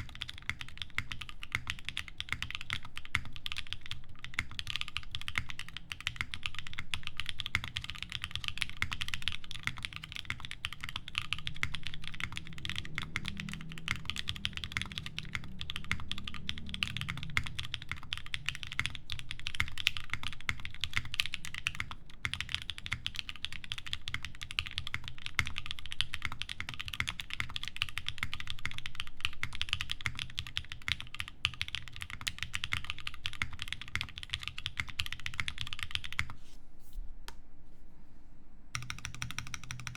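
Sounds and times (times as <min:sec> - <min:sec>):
mechanical keyboard typing: 0:00.0 - 0:36.4, 0:38.8 - 0:39.9.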